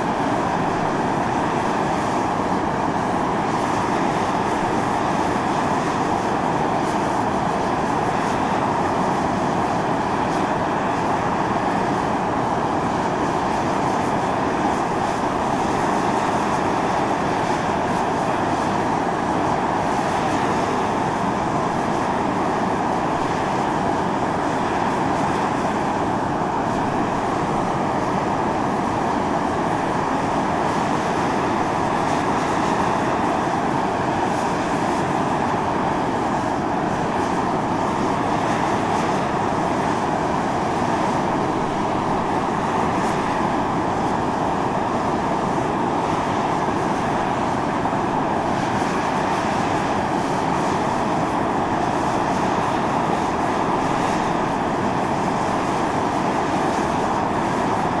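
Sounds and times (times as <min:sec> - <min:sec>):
steam hissing from fumaroles: 0:00.0 - 0:58.0.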